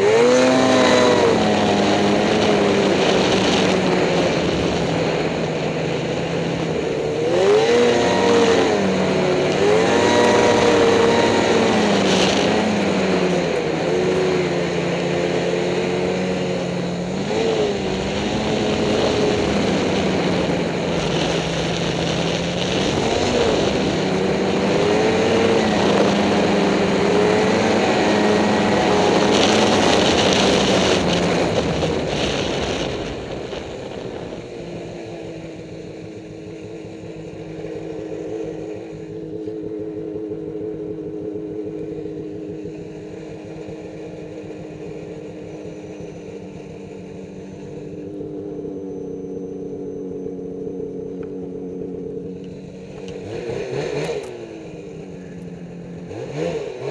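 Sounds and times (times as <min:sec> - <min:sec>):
snowmobile engine running: 0:00.0 - 0:56.9.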